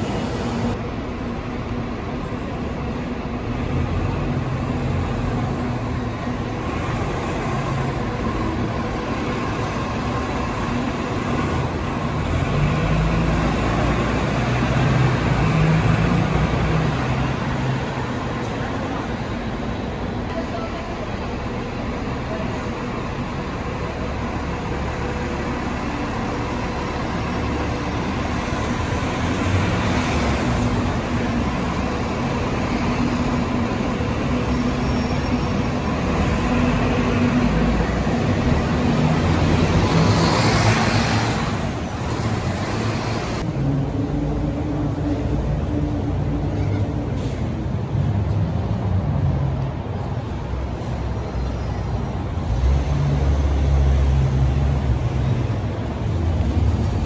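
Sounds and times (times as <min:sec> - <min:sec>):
bus engine running: 0:00.0 - 0:57.0
cars and van passing: 0:00.0 - 0:57.0.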